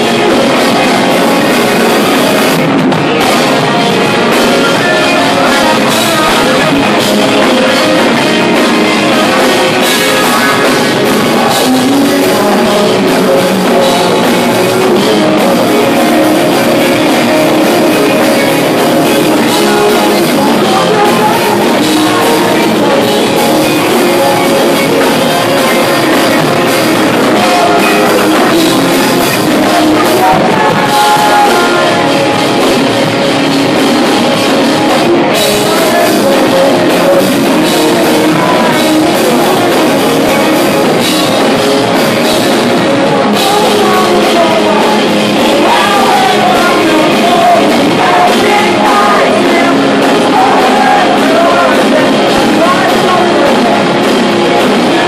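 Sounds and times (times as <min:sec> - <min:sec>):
rock band playing loudly: 0:00.0 - 0:55.0.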